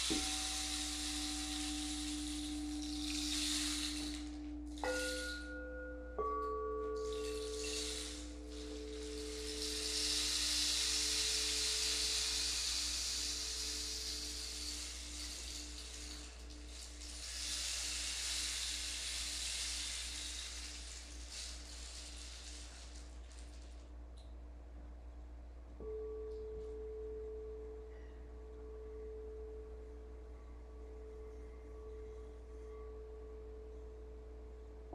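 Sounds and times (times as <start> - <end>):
singing bowl ringing: 0.0 - 23.4, 25.8 - 34.9
soft hissing wash: 0.0 - 34.9
steady pulsing hum: 0.0 - 34.9.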